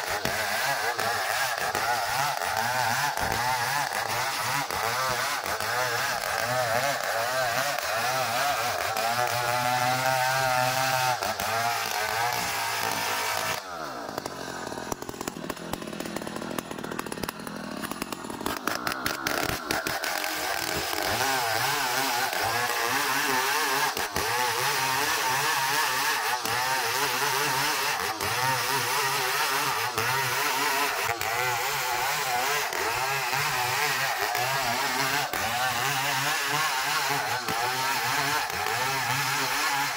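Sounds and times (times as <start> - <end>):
power saw cutting timber: 0.0 - 39.9.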